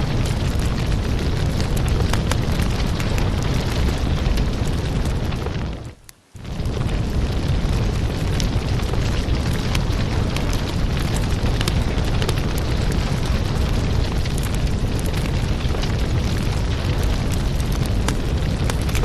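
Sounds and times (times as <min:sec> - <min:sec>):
firewood burning with crackles: 0:00.0 - 0:19.0.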